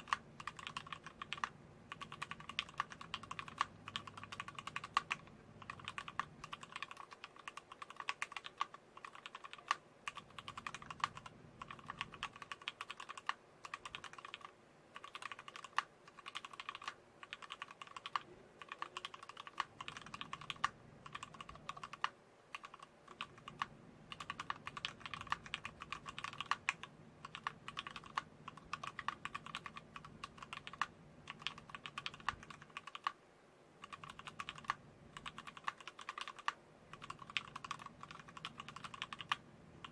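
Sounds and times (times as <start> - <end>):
mechanical keyboard typing: 0.0 - 33.2, 33.8 - 39.9.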